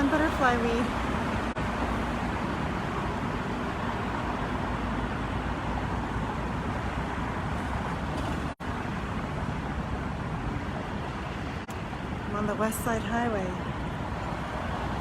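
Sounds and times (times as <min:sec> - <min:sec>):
road traffic roar: 0:00.0 - 0:15.0.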